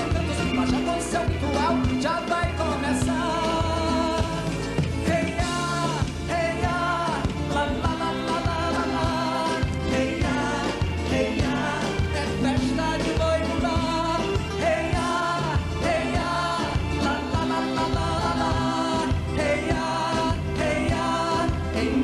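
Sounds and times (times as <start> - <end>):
band playing drums and instruments: 0.0 - 22.0
person singing: 0.0 - 22.0.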